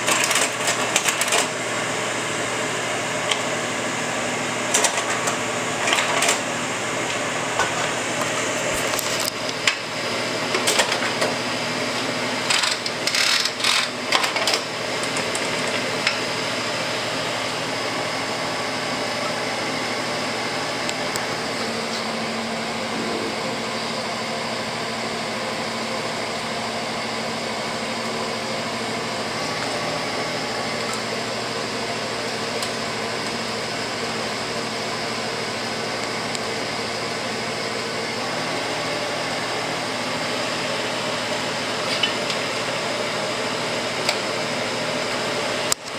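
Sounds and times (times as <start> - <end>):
projector cooling fan humming: 0.0 - 45.9.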